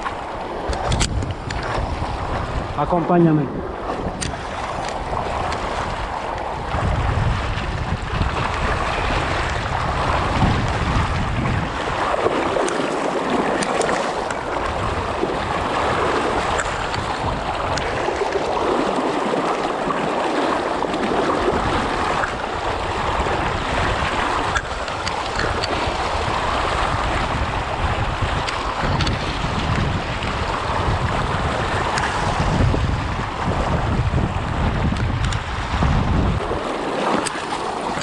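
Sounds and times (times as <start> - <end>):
river water rushing: 0.0 - 38.0
wind buffeting microphone: 0.0 - 38.0.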